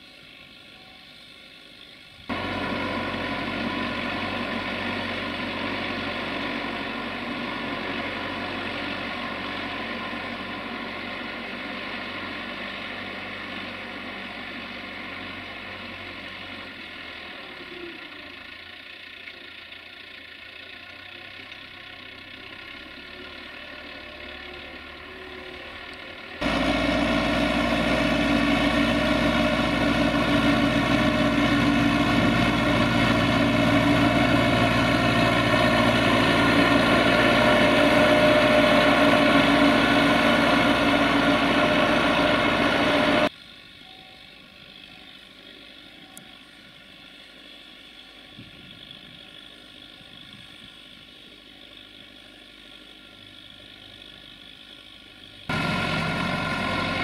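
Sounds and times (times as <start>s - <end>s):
faint outdoor background: 0.0s - 57.0s
tractor diesel engine running: 0.0s - 57.0s.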